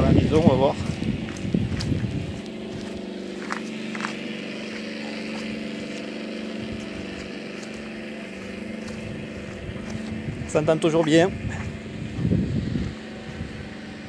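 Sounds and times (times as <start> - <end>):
simulated radial engine running: 0.0 - 14.0.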